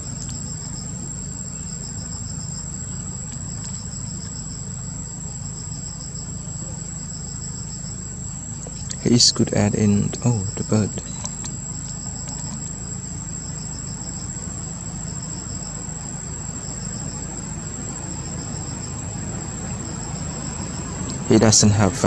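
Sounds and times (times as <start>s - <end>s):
insects buzzing: 0.0s - 22.0s
soft pulsing insect layer: 0.0s - 22.0s.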